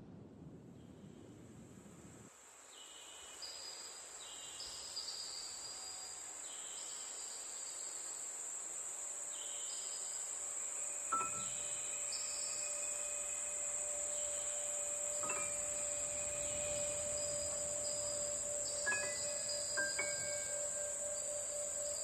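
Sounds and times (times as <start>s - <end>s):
insects chirring: 2.4s - 22.0s.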